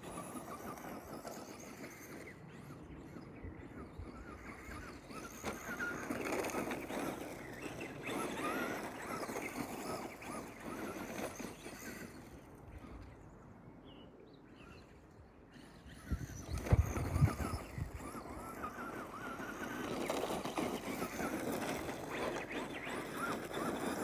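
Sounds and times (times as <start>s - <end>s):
electric motor whining: 0.0s - 13.2s, 15.6s - 24.0s.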